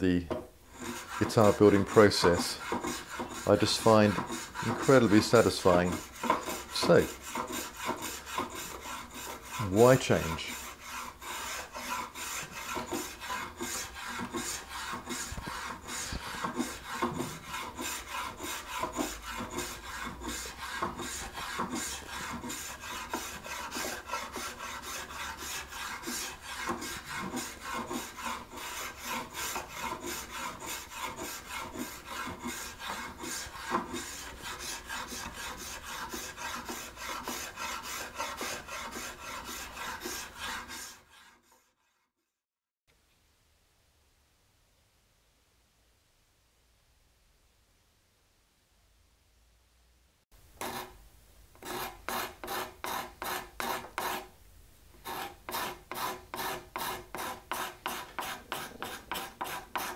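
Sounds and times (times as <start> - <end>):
spokeshave rasping through wood: 0.3 - 42.0, 50.6 - 51.0, 51.6 - 54.3, 55.0 - 59.9.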